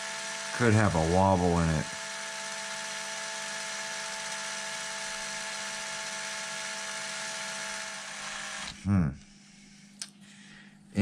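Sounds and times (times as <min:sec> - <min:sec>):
cordless drill whining: 0:00.0 - 0:08.8.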